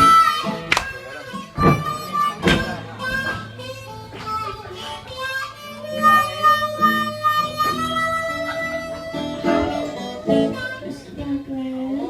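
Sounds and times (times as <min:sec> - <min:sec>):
blues harmonica solo: 0:00.0 - 0:11.0
acoustic guitar: 0:00.0 - 0:12.0.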